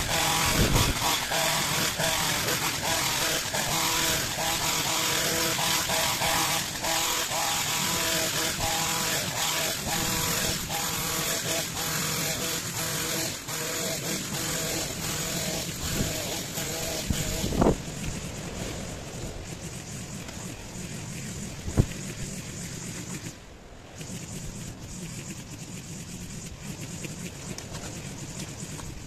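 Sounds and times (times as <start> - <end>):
hedge trimmer engine running: 0.0 - 23.3.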